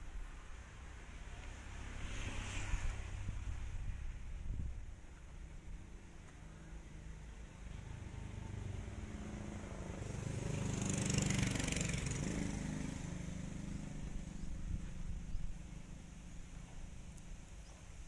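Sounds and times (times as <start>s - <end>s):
engine passing by: 0.6s - 4.3s, 6.6s - 17.7s.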